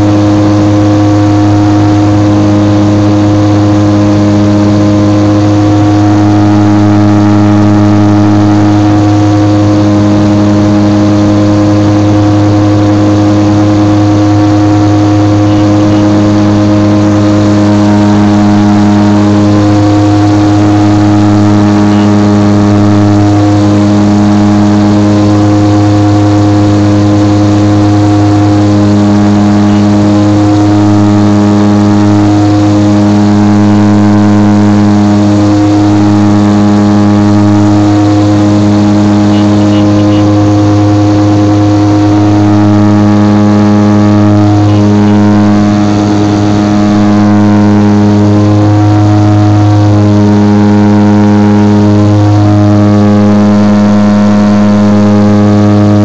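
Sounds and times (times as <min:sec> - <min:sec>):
turboprop engine droning: 0:00.0 - 0:56.0.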